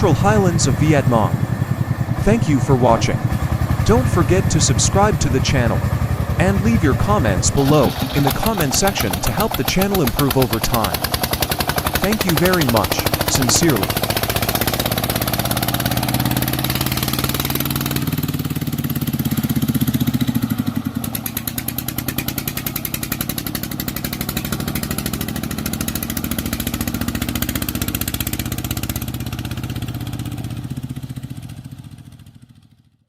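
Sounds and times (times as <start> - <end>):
truck engine chugging: 0.0 - 32.7.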